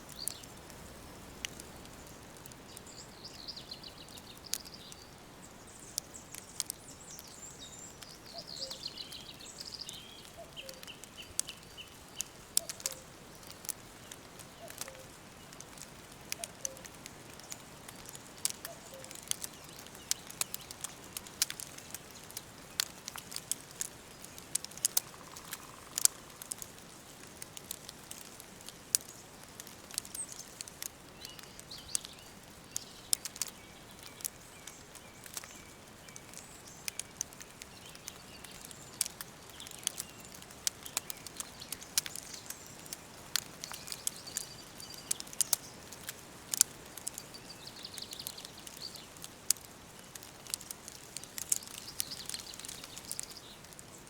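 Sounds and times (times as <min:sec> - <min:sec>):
forest birdsong: 0:00.0 - 0:54.0
soft hiss: 0:00.0 - 0:54.0
wood fire crackling and popping: 0:00.0 - 0:54.0.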